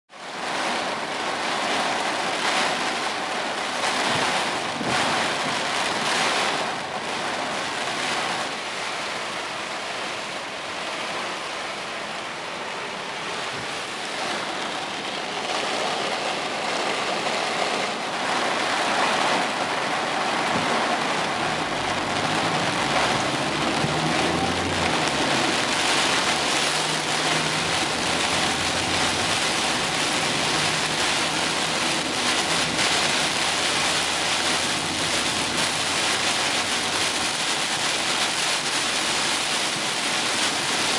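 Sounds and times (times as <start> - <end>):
heavy rain and wind: 0.1 - 40.9.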